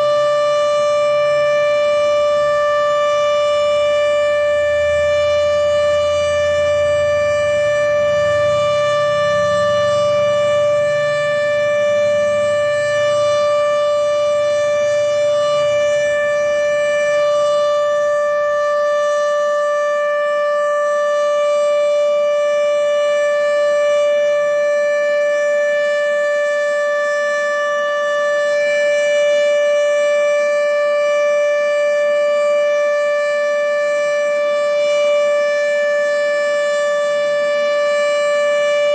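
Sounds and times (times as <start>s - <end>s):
steady warning siren: 0.0s - 38.9s.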